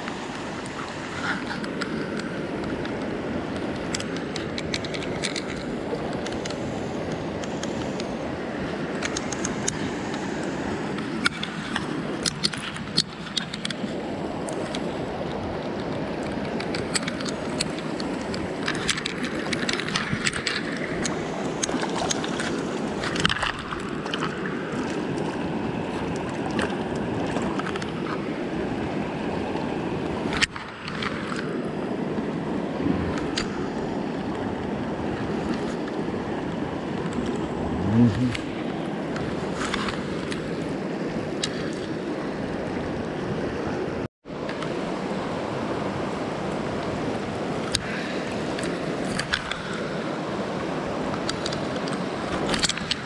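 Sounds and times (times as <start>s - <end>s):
stream running over stones: 0.0s - 53.0s.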